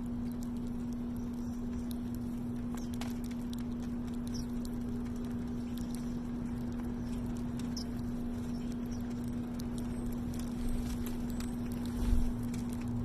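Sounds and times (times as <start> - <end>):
birds pecking taps: 0.0 - 11.9
steady low hum: 0.0 - 13.0.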